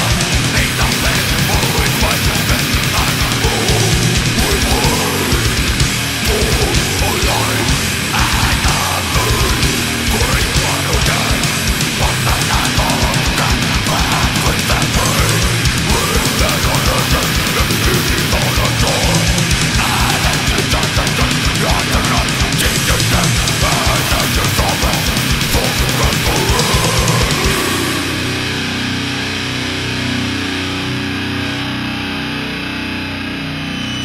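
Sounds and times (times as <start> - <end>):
fast double-bass drumming: 0.0 - 28.6
distorted electric guitars: 0.0 - 34.0.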